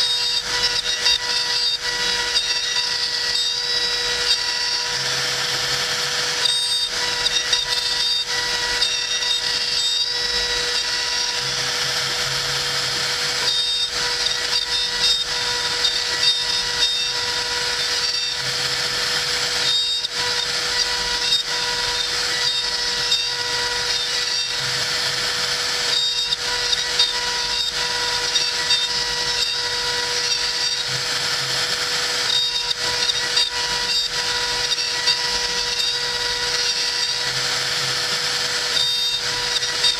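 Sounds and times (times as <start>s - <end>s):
bit rasping through wood: 0.0s - 39.9s
router spindle motor hum: 0.0s - 39.9s.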